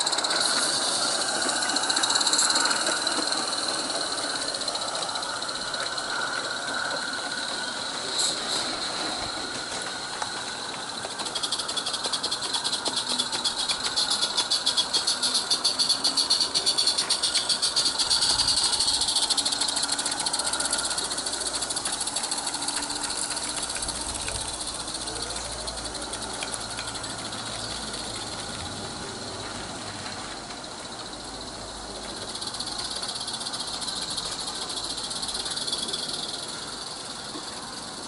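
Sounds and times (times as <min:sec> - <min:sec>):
steam hiss: 0:00.0 - 0:38.0
steam locomotive chuffing: 0:00.0 - 0:38.0.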